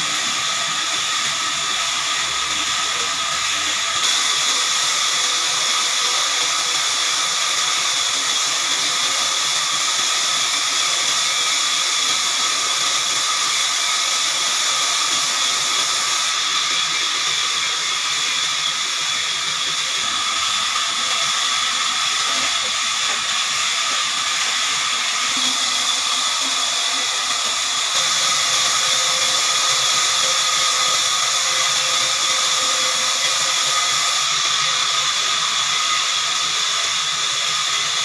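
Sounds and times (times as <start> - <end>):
band saw cutting log: 0.0 - 38.0.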